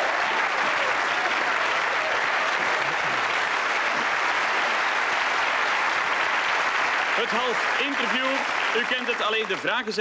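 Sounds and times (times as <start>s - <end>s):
audience applauding: 0.0s - 10.0s
voices cheering: 0.0s - 10.0s.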